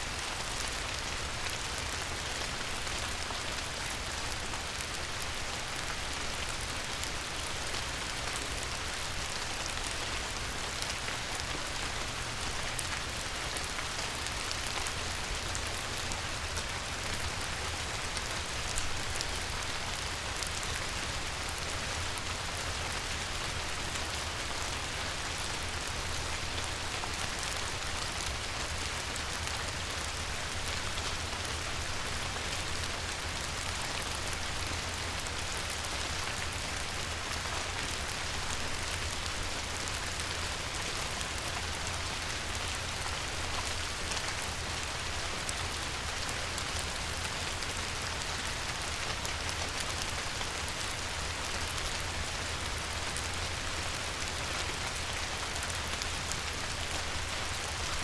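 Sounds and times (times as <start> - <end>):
light rain on water: 0.0 - 58.0.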